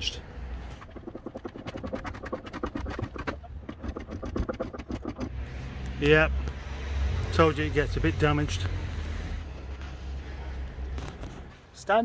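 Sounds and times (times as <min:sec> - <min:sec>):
engine grinding against metal wing: 0:00.6 - 0:11.6.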